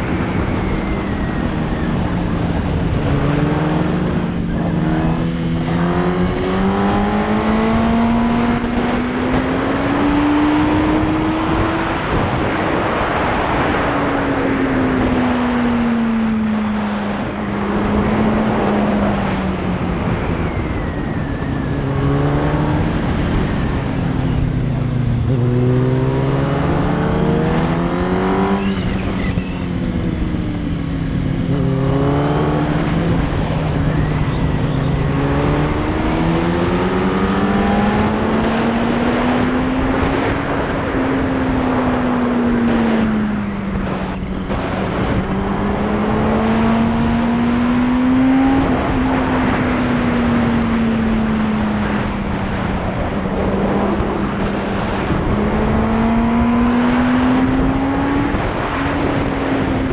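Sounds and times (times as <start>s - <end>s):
motorcycle engine revving: 0.0s - 59.9s
steady rush of noise: 0.0s - 59.9s.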